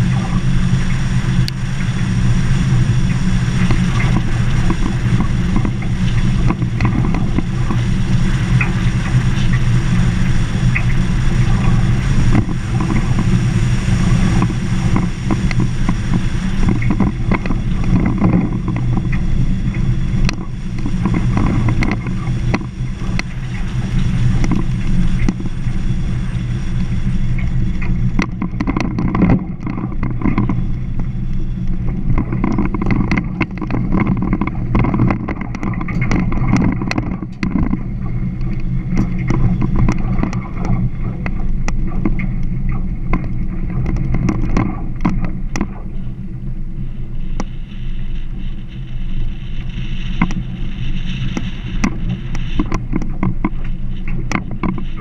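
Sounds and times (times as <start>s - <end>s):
car engine droning: 0.0s - 55.0s.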